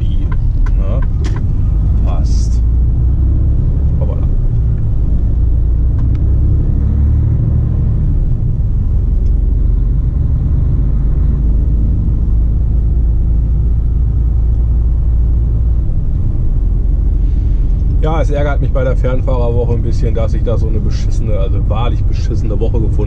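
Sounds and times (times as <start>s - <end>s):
lorry engine and road rumble: 0.0s - 23.0s.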